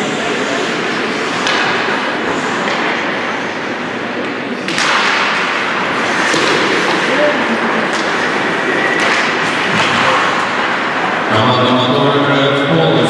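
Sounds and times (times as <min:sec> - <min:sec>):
crowd noise in arena: 0:00.0 - 0:13.0.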